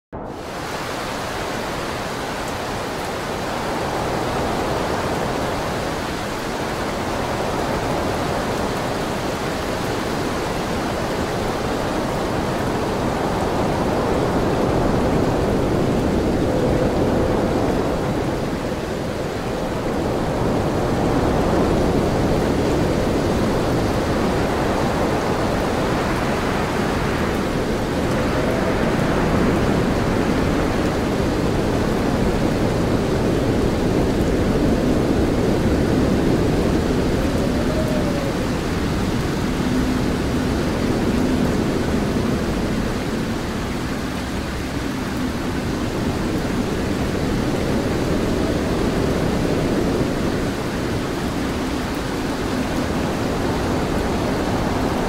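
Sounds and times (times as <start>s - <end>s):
wind and rain rushing: 0.1s - 55.0s.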